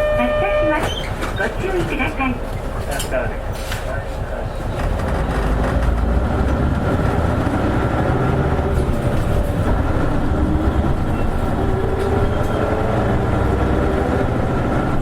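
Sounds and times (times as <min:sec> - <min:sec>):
bus diesel engine rumble: 0:00.0 - 0:15.0
constant whine: 0:00.0 - 0:15.0.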